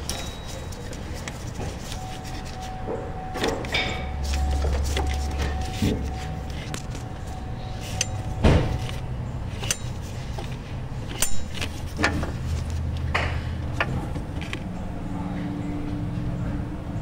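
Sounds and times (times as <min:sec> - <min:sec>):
tools clicking and knocking: 0:00.0 - 0:07.3, 0:07.9 - 0:14.6
steady low hum: 0:00.0 - 0:17.0.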